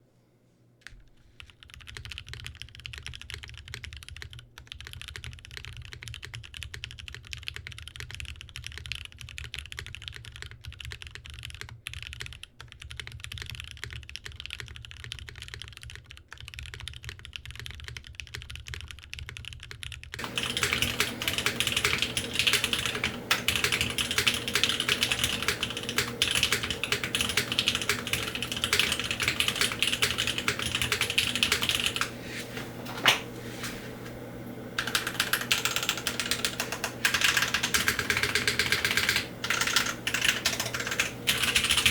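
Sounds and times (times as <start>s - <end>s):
fast typing on mechanical keyboard: 1.4s - 32.2s, 34.1s - 41.9s.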